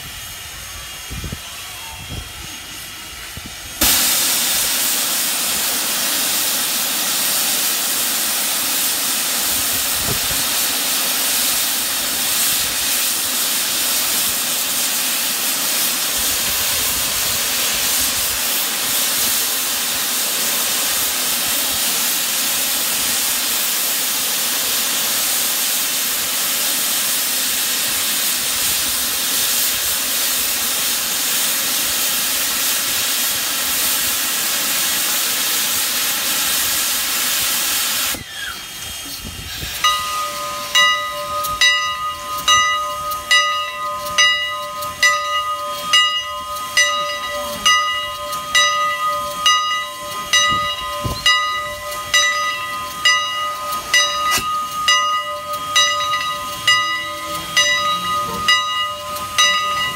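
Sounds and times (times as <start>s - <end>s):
steam hissing from locomotive: 0.0s - 59.9s.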